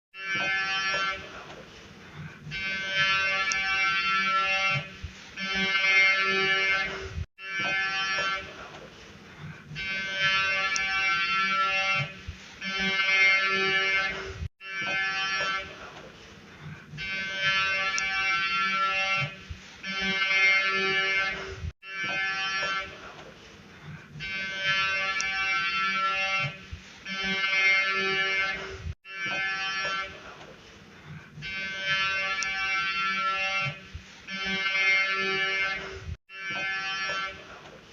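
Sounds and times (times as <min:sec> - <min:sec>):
buzzy electronic alarm tone: 0:00.2 - 0:01.3, 0:02.4 - 0:08.5, 0:09.7 - 0:15.8, 0:16.9 - 0:22.9, 0:24.1 - 0:26.5, 0:27.1 - 0:30.2, 0:31.4 - 0:37.4.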